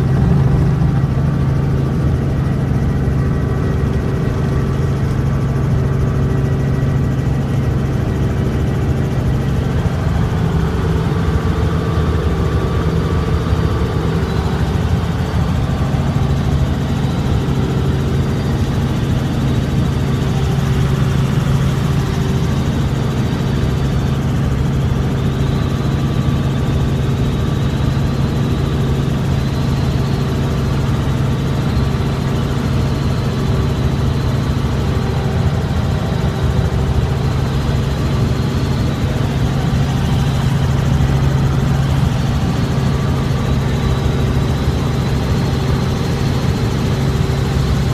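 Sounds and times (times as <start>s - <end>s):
helicopter engine and rotors drone: 0.0s - 47.9s.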